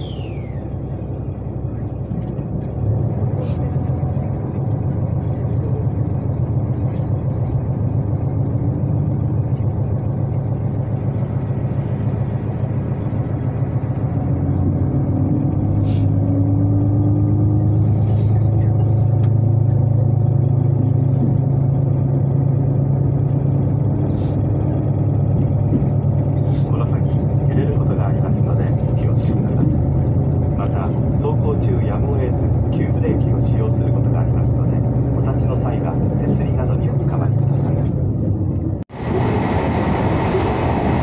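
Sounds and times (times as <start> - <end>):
train engines droning: 0.0 - 41.0.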